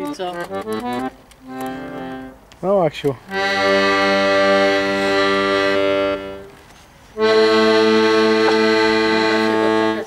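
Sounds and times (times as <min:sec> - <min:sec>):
accordion held chord: 0:00.0 - 0:02.4, 0:03.2 - 0:06.5, 0:07.2 - 0:10.0.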